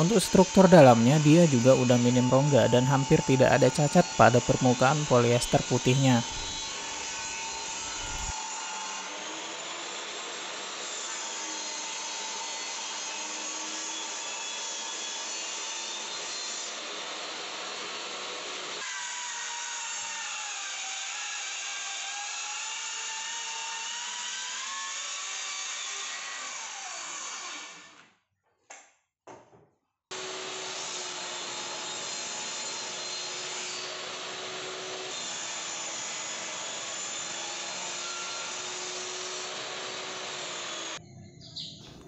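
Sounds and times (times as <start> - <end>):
electric saw cutting board: 0.0 - 28.0, 30.1 - 41.0.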